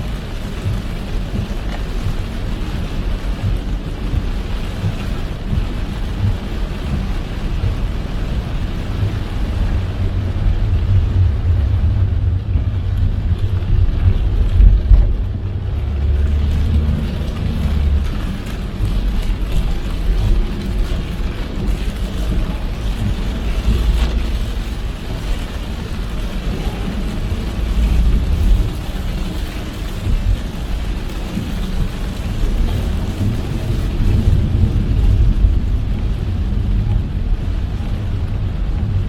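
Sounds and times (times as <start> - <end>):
rain and wet tyres hissing: 0.0 - 39.0
road and engine rumble: 0.0 - 39.0.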